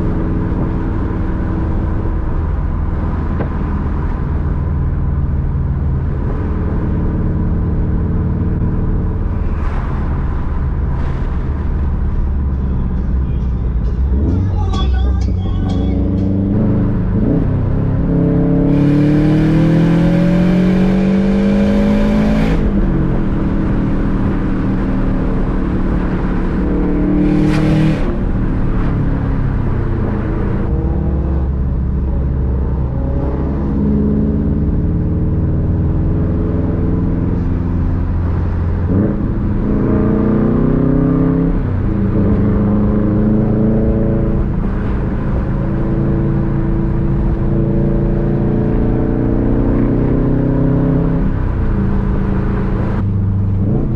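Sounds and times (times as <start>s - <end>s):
turbocharged car engine accelerating: 0.0s - 53.9s.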